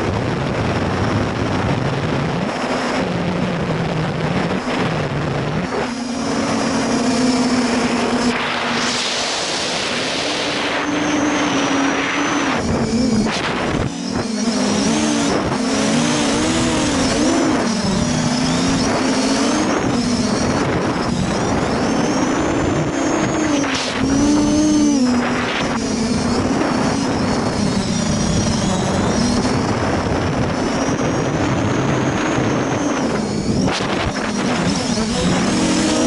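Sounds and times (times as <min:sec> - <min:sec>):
drone motors buzzing: 0:00.0 - 0:36.0
wind noise on microphone: 0:00.0 - 0:36.0.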